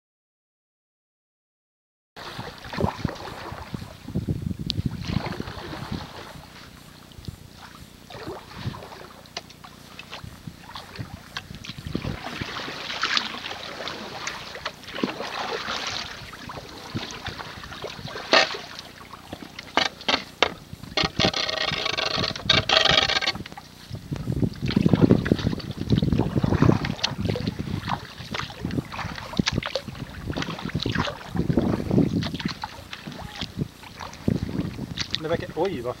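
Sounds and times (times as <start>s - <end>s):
paddle blades splashing: 2.2s - 4.2s, 4.8s - 36.0s
water lapping against hull: 2.2s - 36.0s.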